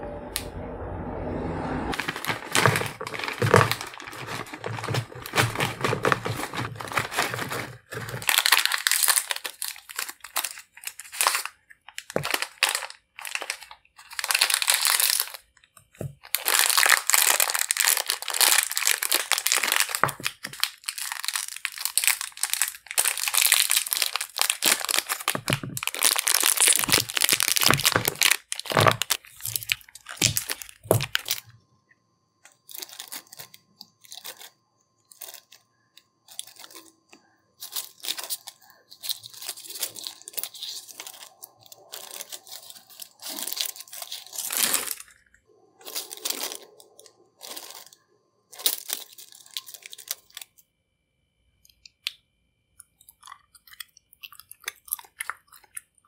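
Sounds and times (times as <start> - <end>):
foil wrappers crinkling and tearing: 1.9 - 31.5, 32.5 - 35.6, 36.3 - 37.0, 37.6 - 50.5.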